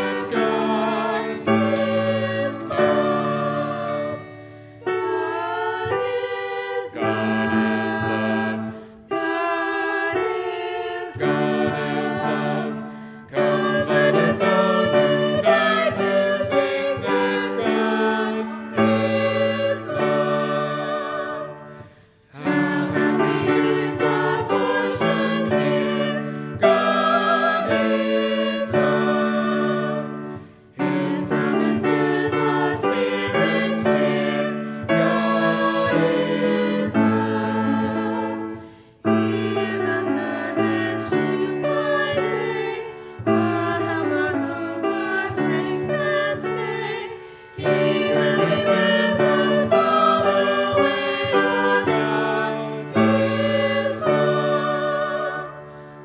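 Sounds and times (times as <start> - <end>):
group singing worship song: 0.0 - 56.0
instrumental accompaniment: 0.0 - 56.0.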